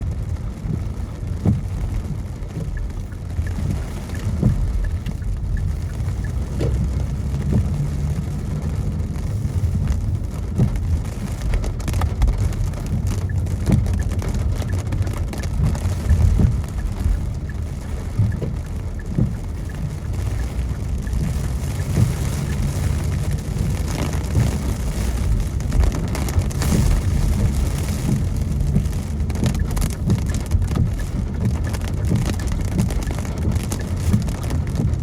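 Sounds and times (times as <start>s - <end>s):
car road rumble: 0.0s - 35.0s
raindrops tapping on windshield: 0.0s - 35.0s.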